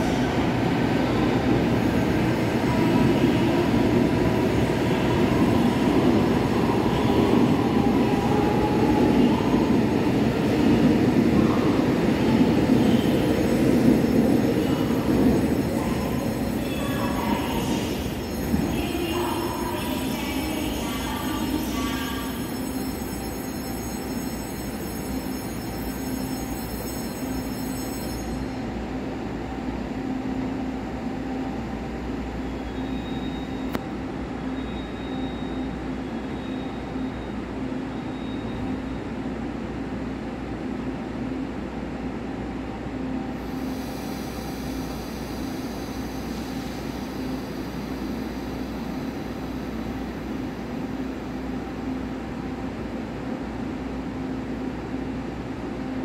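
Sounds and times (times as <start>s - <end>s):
train humming at platform: 0.0s - 56.0s.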